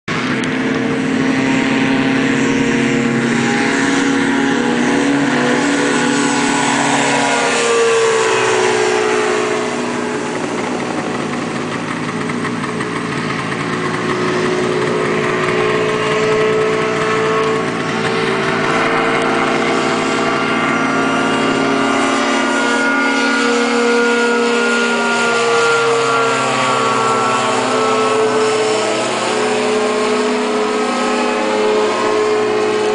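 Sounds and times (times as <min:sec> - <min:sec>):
gyroplane engine and propeller: 0:00.0 - 0:32.9.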